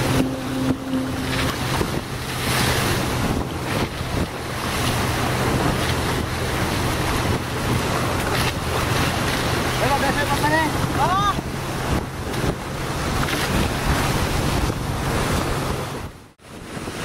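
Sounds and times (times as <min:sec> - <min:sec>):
outboard motor drone: 0:00.0 - 0:17.0
water rushing and splashing: 0:00.0 - 0:17.0
wind buffeting microphone: 0:00.0 - 0:17.0.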